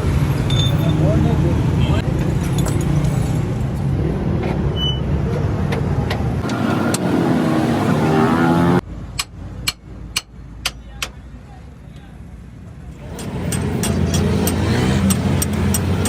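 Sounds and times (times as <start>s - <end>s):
motor vehicle engine hum: 0.0s - 16.0s
road noise: 0.0s - 16.0s.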